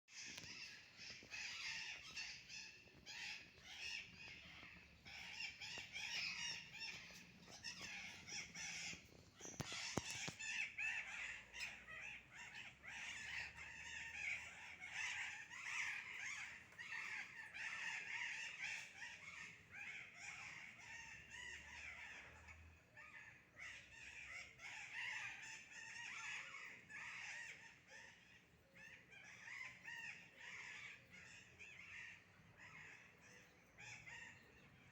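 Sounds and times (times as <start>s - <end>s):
flock of birds calling: 0.1s - 34.9s.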